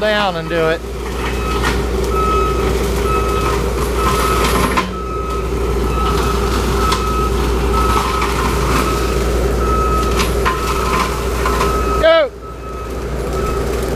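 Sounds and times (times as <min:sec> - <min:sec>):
loader engine running: 0:00.0 - 0:13.9
backup alarm beeping: 0:01.3 - 0:13.8.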